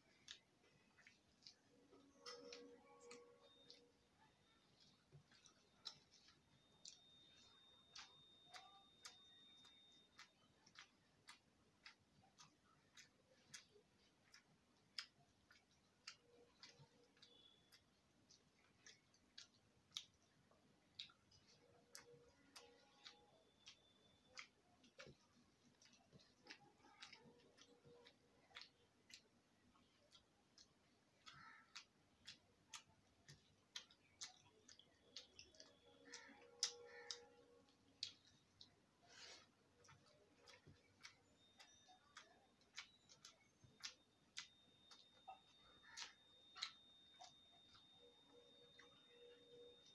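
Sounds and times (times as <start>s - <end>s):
chewing: 0.0s - 49.9s
fingers mixing rice: 0.0s - 49.9s.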